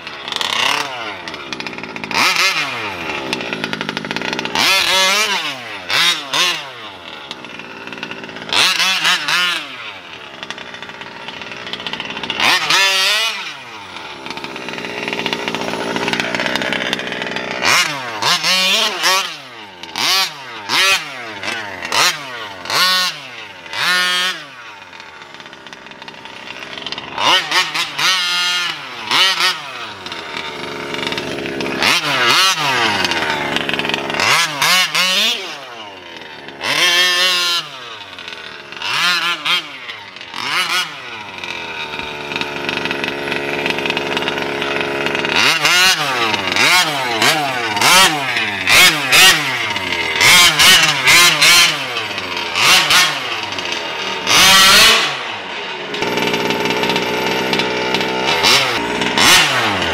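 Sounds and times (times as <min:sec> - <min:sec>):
rc truck engine revving: 0:00.0 - 0:59.9.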